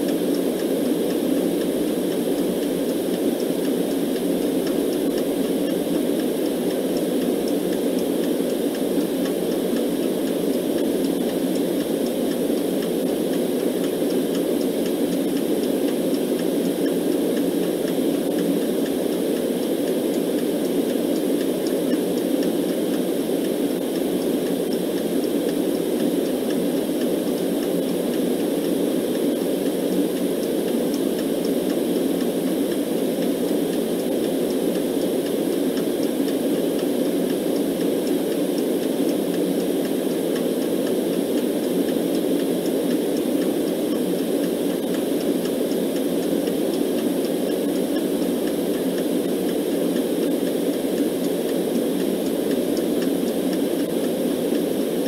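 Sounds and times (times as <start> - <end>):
clock ticking faintly: 0.0 - 55.0
steady white noise: 0.0 - 55.0.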